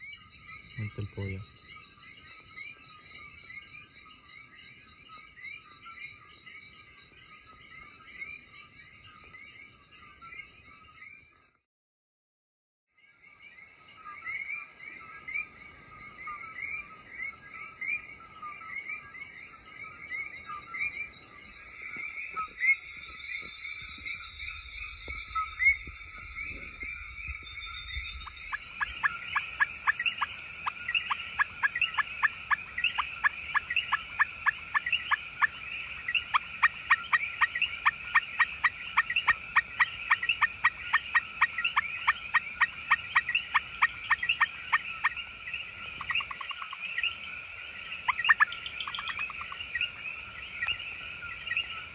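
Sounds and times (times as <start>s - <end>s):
frogs chirping: 0.0s - 11.4s, 13.0s - 51.9s.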